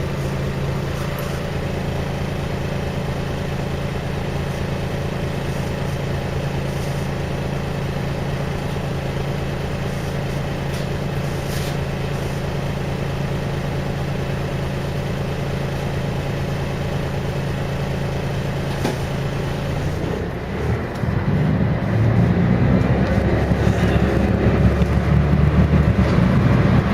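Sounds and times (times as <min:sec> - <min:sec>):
bus diesel engine running: 0:00.0 - 0:26.9.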